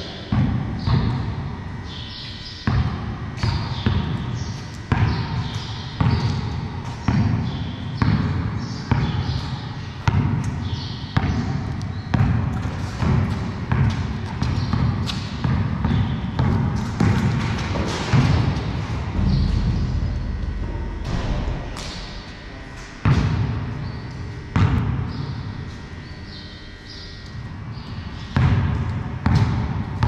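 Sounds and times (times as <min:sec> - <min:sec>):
basketball bouncing on concrete: 0:00.1 - 0:22.0, 0:23.0 - 0:23.6, 0:24.5 - 0:26.4, 0:28.2 - 0:30.0.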